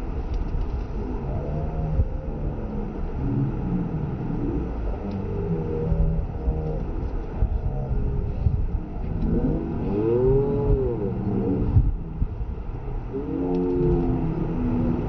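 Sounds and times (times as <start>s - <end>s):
wavering low-pitched sounds: 0.0s - 15.0s.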